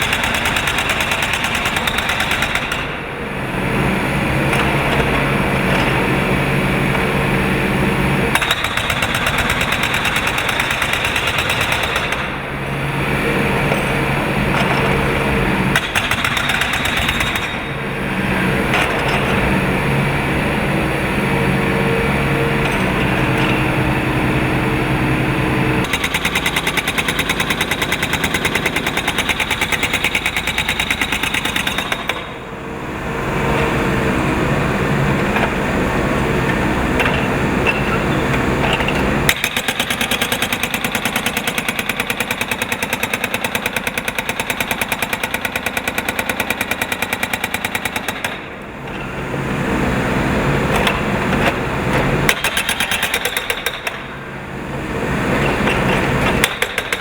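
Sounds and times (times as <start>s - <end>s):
excavator engine running: 0.0s - 57.0s
hydraulic breaker hammering: 0.0s - 57.0s.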